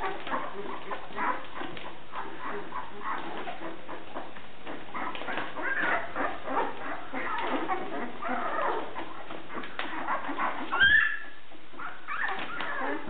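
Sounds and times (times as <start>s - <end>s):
puppies whimpering and squeaking: 0.0s - 13.0s.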